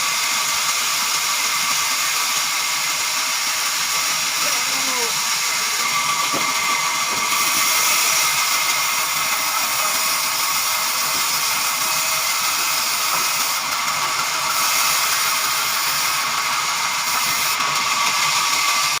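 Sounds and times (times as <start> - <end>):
band saw cutting log: 0.0 - 19.0.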